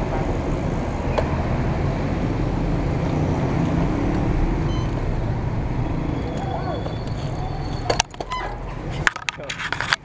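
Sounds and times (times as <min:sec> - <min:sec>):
road rumble: 0:00.0 - 0:10.0.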